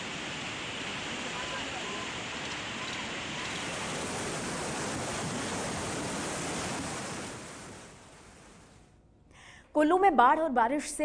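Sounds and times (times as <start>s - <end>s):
flooded river roaring: 0.0s - 8.8s.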